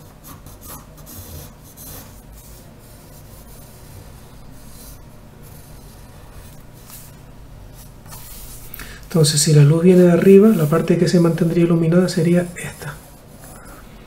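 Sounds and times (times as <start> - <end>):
pencil scratching on paper: 0.0 - 13.6.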